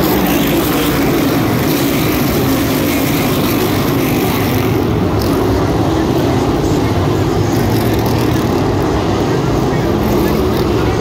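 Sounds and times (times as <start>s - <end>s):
race cars racing past: 0.0s - 11.0s.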